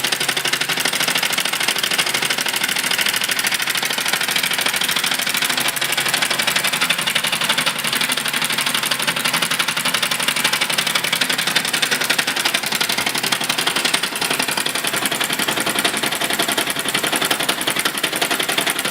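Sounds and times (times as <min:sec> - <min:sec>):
small model engine running: 0:00.0 - 0:18.9.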